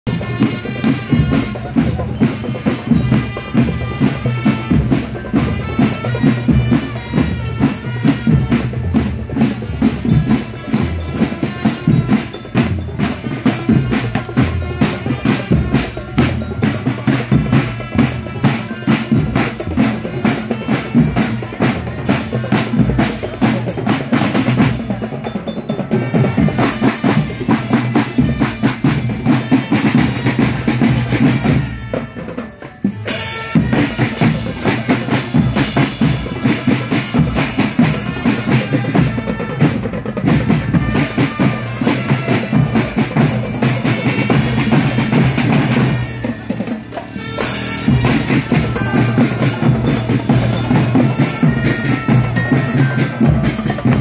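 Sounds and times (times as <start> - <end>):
marching drum band: 0.0 - 54.0.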